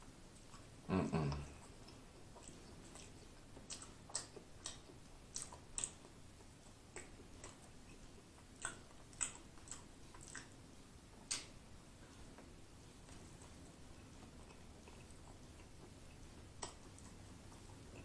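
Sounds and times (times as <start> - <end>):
close-miked chewing: 0.0 - 18.0.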